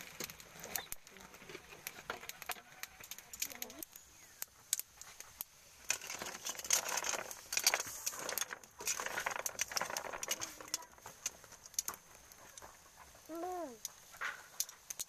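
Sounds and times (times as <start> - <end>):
snail shells rattling in a pan: 0.0 - 15.0
wood fire crackling and popping: 0.0 - 15.0.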